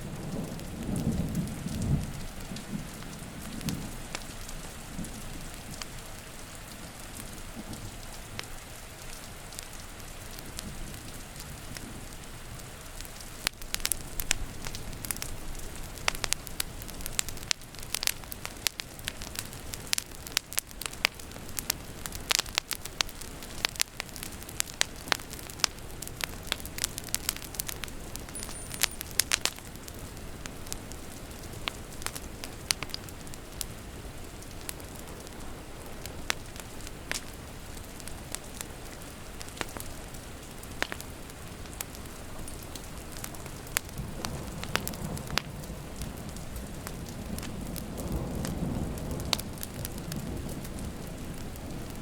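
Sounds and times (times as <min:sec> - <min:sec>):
soft steady hiss: 0:00.0 - 0:52.0
wood fire crackling and popping: 0:00.1 - 0:52.0.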